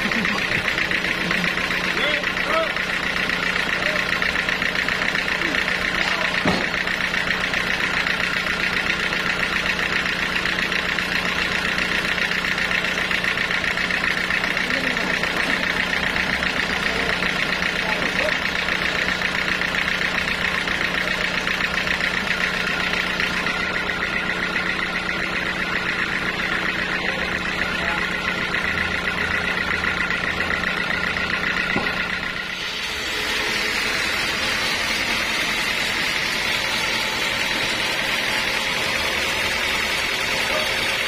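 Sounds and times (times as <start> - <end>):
band saw drive running: 0.0 - 41.0.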